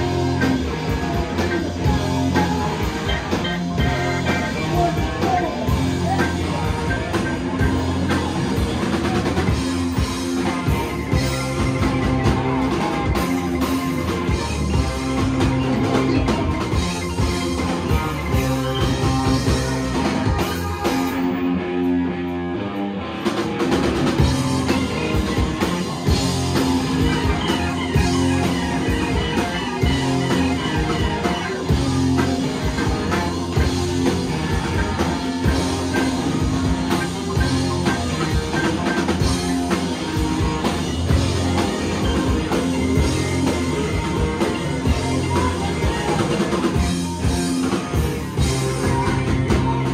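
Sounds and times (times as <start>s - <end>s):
rock band playing loudly: 0.0s - 49.9s.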